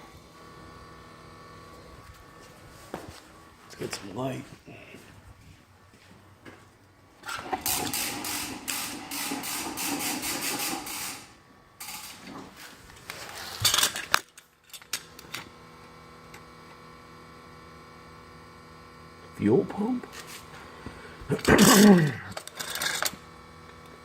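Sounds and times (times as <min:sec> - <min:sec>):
electric fuel pump humming: 0:00.0 - 0:04.9, 0:07.1 - 0:14.2, 0:14.8 - 0:24.0.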